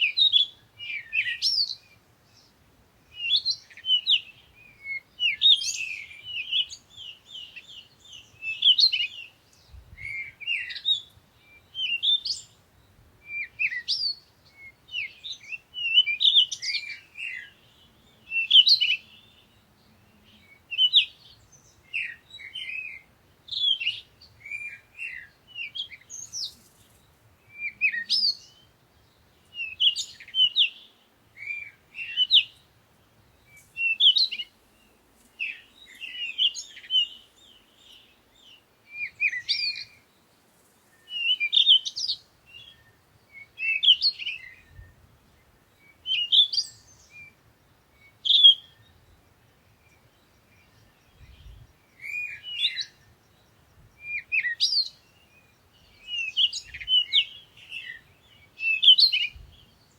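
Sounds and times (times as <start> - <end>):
songbirds chirping and whistling: 0.0 - 59.9.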